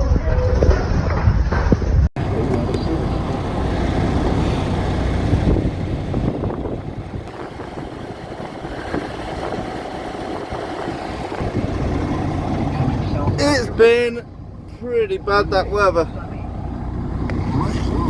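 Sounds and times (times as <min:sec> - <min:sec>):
truck engine running: 0:02.2 - 0:18.0.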